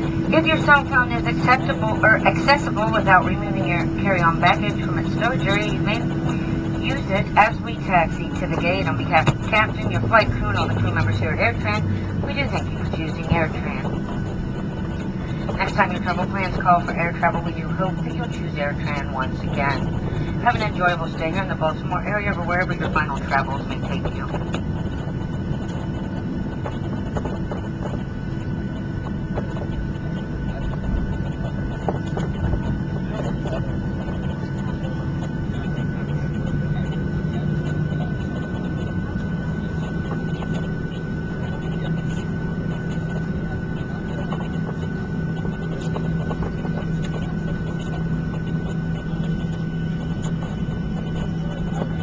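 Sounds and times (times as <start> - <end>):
airplane cabin engine rumble: 0.0 - 52.0
faint steady whine: 0.0 - 52.0
low hum: 0.0 - 52.0.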